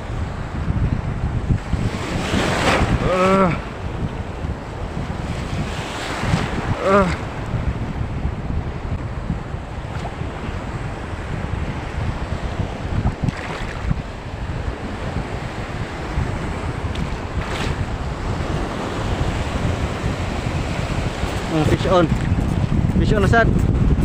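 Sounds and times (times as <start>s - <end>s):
sea waves: 0.0s - 24.0s
wind buffeting microphone: 0.0s - 24.0s.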